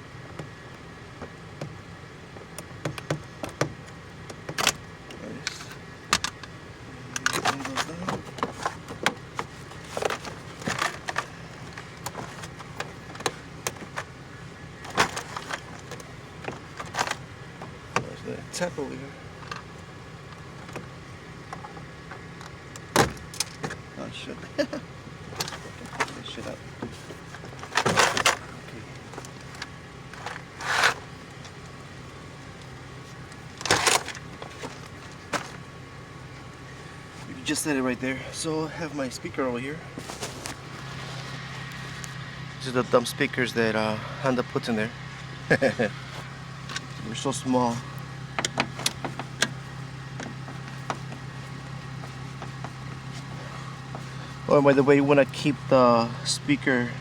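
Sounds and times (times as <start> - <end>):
steady low hum: 0.0 - 57.0
parts scraping and rustling: 3.0 - 23.9, 25.2 - 42.9, 45.1 - 56.3.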